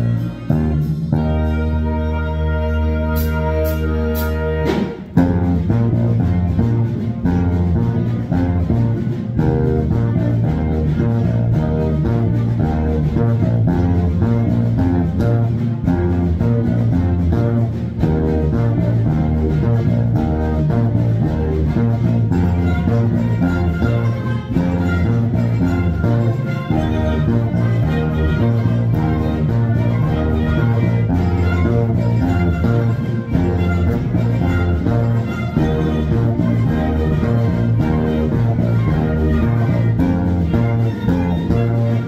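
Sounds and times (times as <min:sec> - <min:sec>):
backing music: 0:00.0 - 0:42.0
electric bass line: 0:00.0 - 0:42.0.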